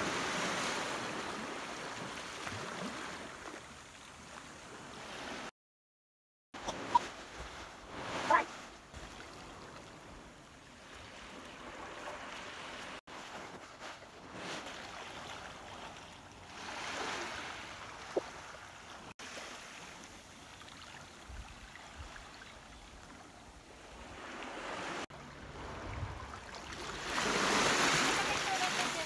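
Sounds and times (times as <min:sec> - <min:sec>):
small waves washing onto beach: 0:00.0 - 0:05.5, 0:06.6 - 0:29.0.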